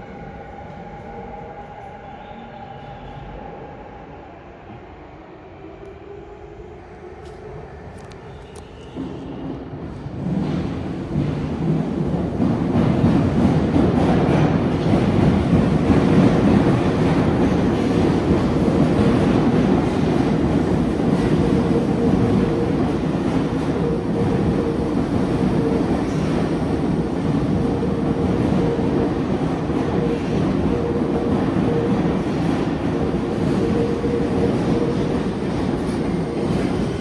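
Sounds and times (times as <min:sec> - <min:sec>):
train rumble of wheels and motors: 0:00.0 - 0:37.0.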